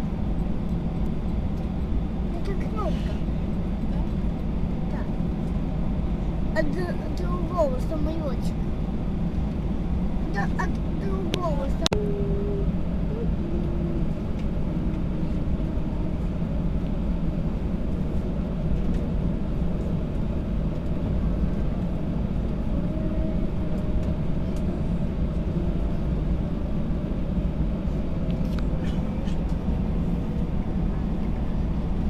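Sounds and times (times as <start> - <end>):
airplane engines rumbling in cabin: 0.0 - 32.0.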